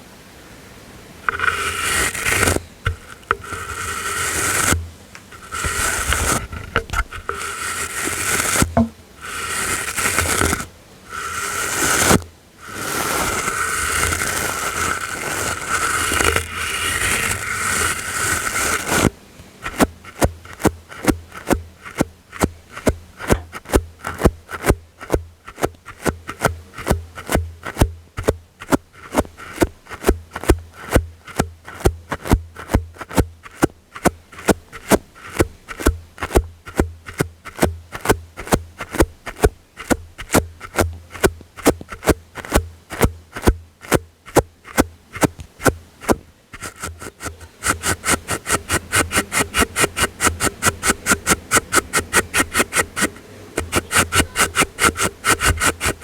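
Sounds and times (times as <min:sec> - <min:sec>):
brushing: 0:01.2 - 0:56.0.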